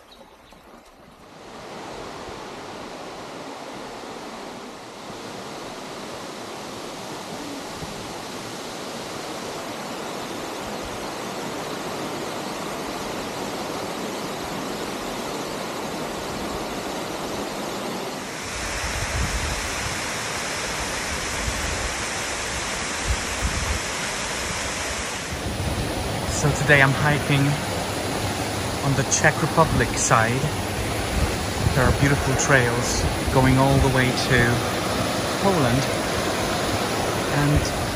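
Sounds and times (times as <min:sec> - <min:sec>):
mountain stream rushing: 0:00.0 - 0:37.9.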